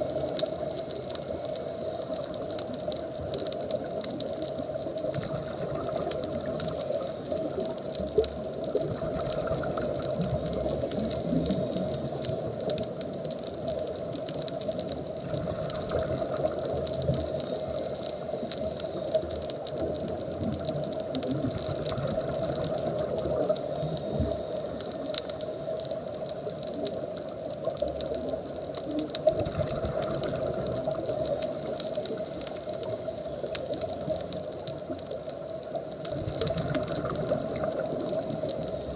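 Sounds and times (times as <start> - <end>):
clicks and crackles: 0.0 - 38.9
muffled underwater noise: 0.0 - 38.9.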